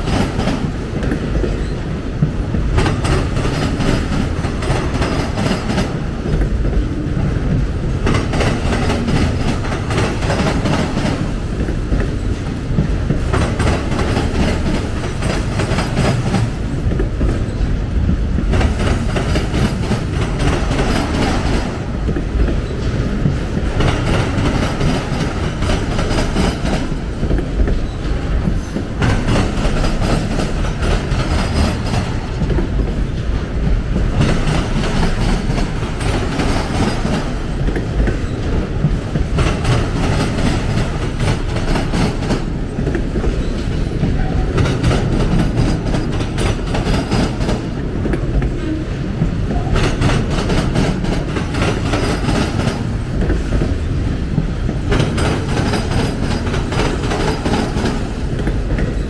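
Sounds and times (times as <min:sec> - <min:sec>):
steel wheels rumbling on rail: 0:00.0 - 0:59.0
wheels clacking over rail joints: 0:00.0 - 0:59.0.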